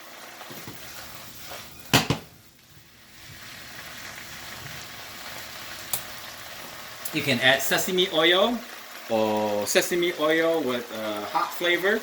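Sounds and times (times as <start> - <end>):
vegetables sizzling in a hot pan: 0.0 - 12.0.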